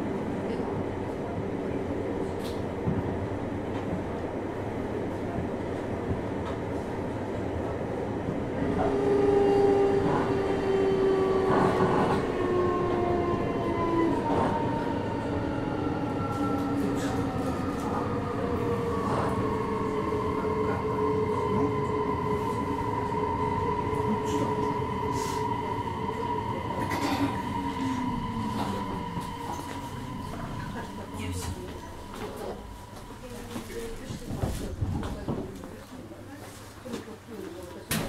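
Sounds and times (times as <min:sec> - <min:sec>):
wheels rumbling on rail: 0:00.0 - 0:36.4.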